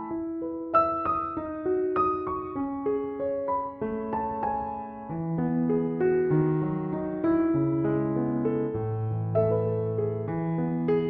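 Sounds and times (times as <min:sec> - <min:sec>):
calm piano music: 0:00.0 - 0:11.0.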